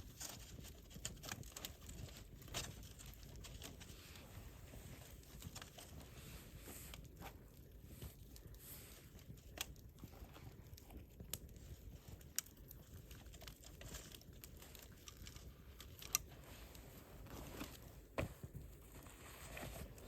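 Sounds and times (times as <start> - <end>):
campfire crackling and popping: 0.0 - 16.8.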